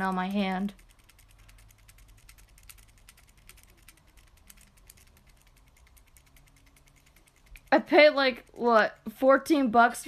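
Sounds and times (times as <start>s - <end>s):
toy mechanism clicking: 0.0s - 9.2s.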